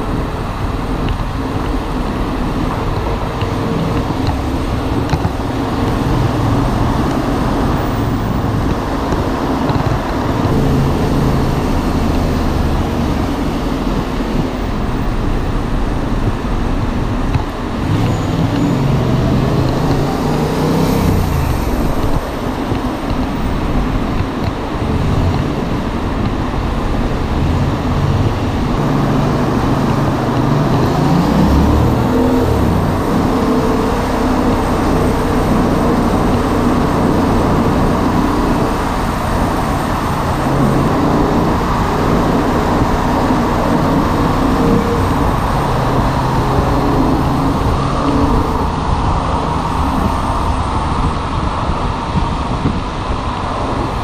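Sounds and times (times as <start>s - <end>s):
surrounding traffic: 0.0s - 54.0s
wind and tyre rush: 0.0s - 54.0s.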